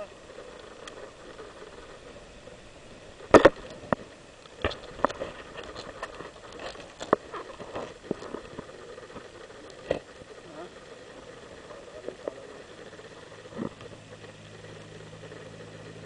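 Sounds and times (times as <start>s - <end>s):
faint steady background rush: 0.0s - 16.0s
sand ticking against camera: 0.0s - 16.0s.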